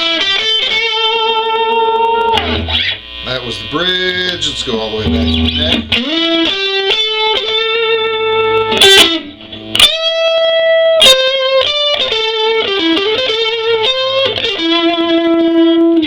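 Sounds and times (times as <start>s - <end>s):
electric guitar single-note phrases: 0.0s - 16.0s.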